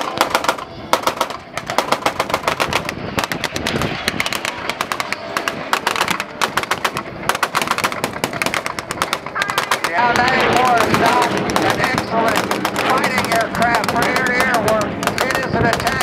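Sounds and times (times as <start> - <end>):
pyrotechnic cracks: 0.0 - 16.0.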